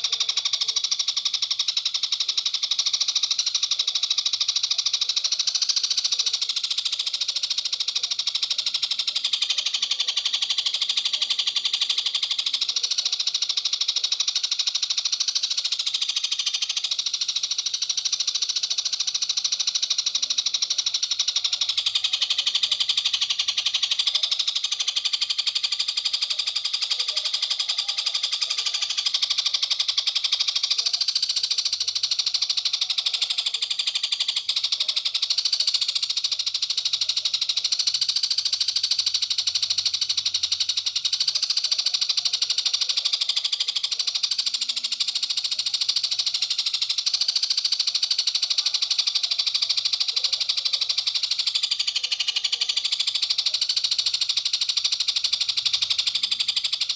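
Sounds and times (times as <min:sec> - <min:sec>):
rapid high-pitched bird trilling: 0:00.0 - 0:56.9.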